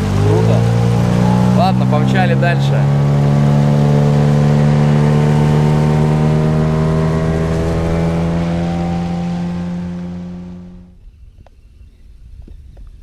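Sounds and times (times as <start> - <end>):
outboard motor drone: 0.0 - 11.0.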